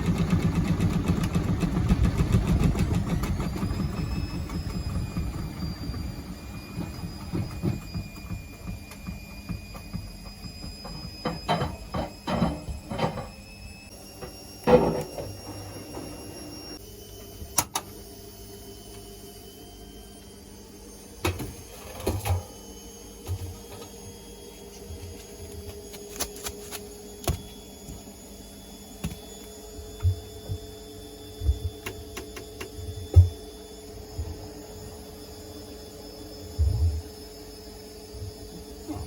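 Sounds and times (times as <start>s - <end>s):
washing machine hum: 0.0s - 39.0s.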